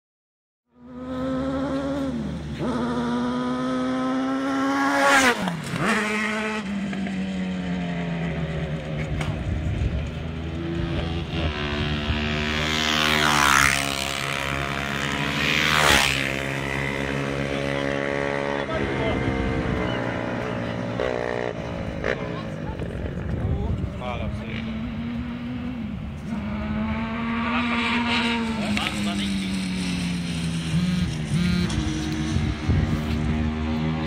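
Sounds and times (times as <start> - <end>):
buggy engines revving: 0.8 - 34.0
cars passing by: 0.8 - 34.0.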